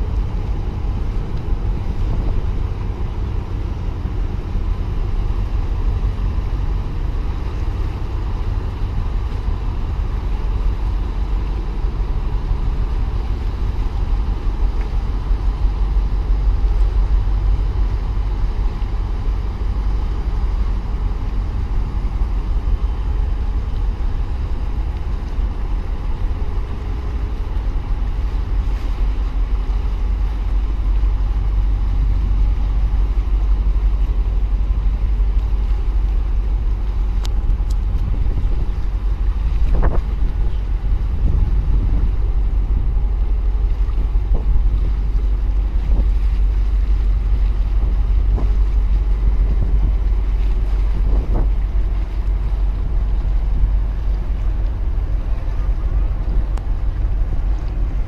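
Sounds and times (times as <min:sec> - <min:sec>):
faint ship engine hum: 0:00.0 - 0:58.0
wind buffeting microphone: 0:00.0 - 0:58.0.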